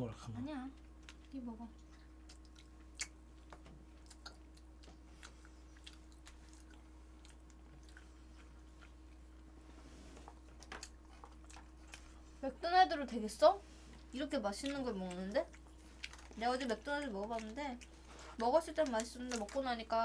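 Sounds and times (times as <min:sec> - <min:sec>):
steady low hum: 0:00.0 - 0:20.0
faint chewing: 0:00.7 - 0:12.6, 0:13.8 - 0:20.0.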